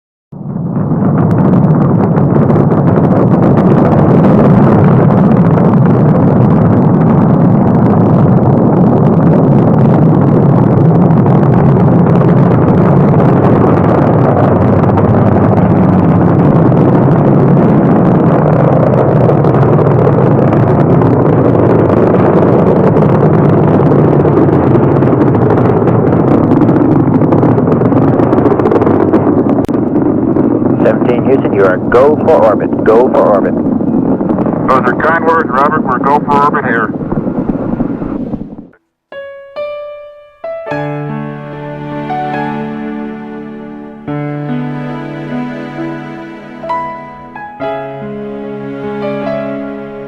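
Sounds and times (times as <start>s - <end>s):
rocket engines roaring: 0.4s - 38.8s, 40.4s - 50.0s.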